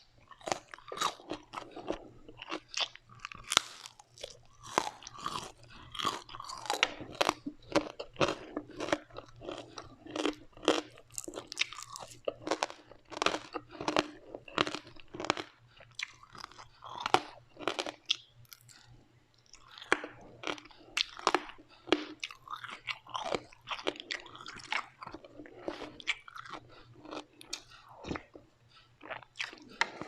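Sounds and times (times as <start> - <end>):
chewing crunchy food: 0.0 - 30.0.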